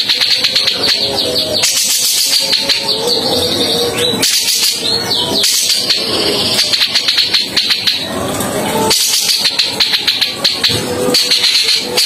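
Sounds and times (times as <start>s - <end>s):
bulbul rasping chatter: 0.0s - 12.0s.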